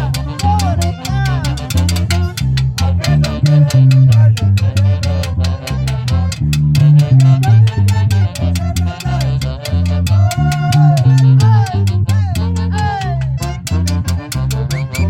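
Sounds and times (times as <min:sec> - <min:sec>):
latin dance-band music: 0:00.0 - 0:15.0.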